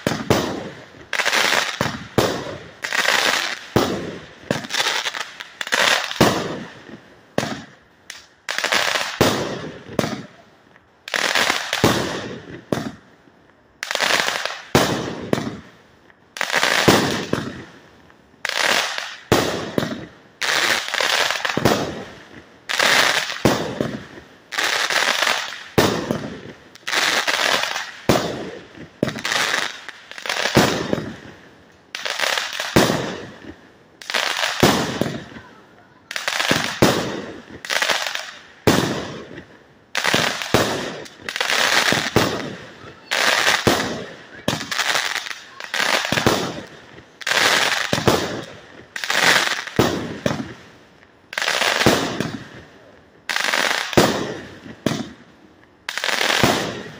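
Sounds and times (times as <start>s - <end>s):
firework shots firing: 0.0s - 5.2s, 6.0s - 6.8s, 7.4s - 10.4s, 11.3s - 13.0s, 14.2s - 15.6s, 16.8s - 17.7s, 18.8s - 20.1s, 20.9s - 24.1s, 24.7s - 31.3s, 32.0s - 50.6s, 51.4s - 52.6s, 53.4s - 55.2s, 55.9s - 56.9s.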